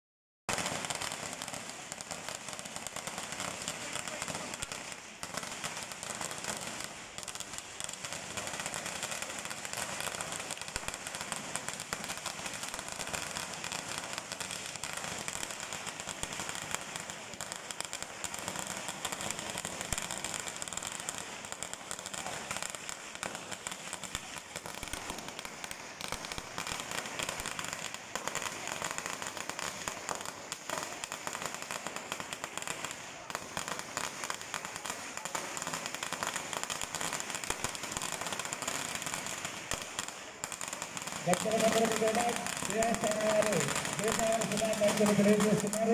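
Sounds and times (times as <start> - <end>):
firecrackers crackling: 0.5 - 45.9.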